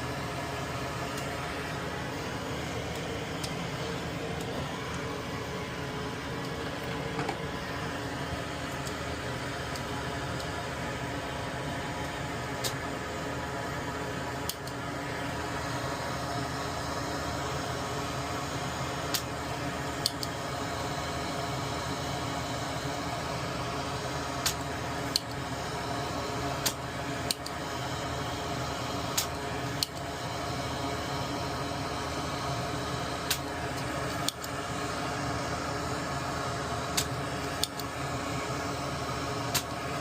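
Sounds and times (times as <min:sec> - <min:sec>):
fan-like machine hum: 0:00.0 - 0:40.0.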